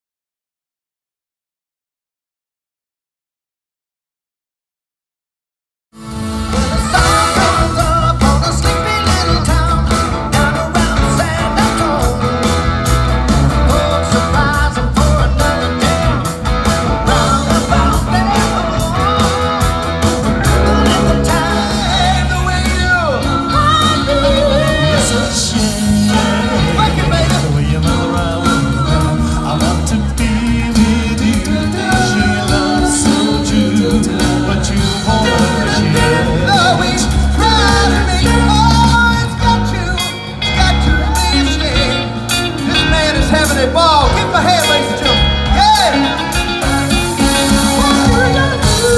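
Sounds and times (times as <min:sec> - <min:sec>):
live rock band: 0:06.0 - 0:48.9
person singing: 0:06.5 - 0:12.6, 0:13.4 - 0:48.9.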